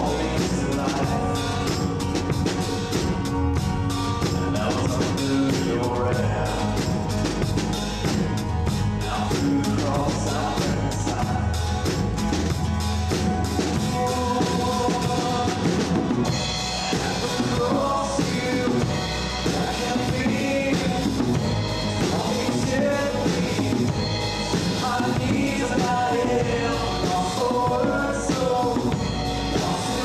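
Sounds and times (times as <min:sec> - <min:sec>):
drum kit playing: 0:00.0 - 0:30.0
electric bass guitar: 0:00.0 - 0:30.0.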